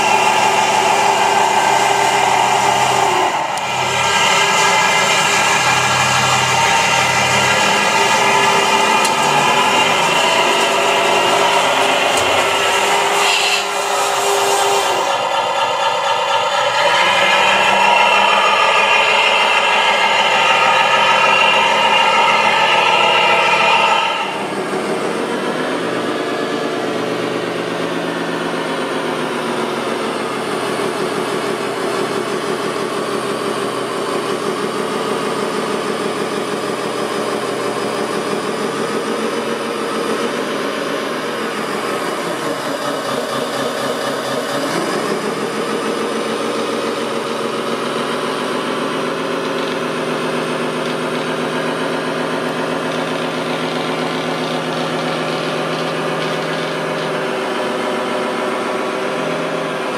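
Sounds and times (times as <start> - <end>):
model machine motor drone: 0.0 - 59.9.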